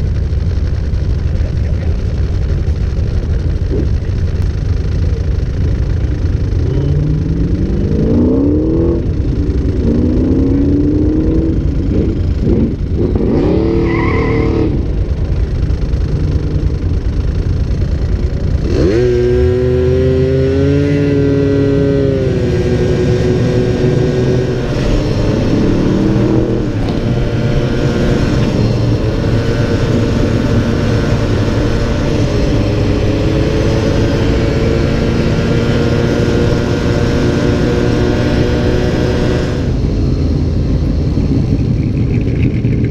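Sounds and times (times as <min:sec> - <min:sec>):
vehicle engine accelerating: 0:00.0 - 0:42.9.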